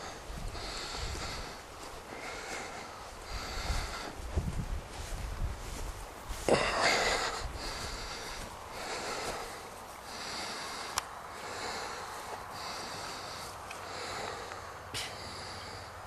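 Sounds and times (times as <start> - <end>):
person breathing hard: 0.0 - 16.0.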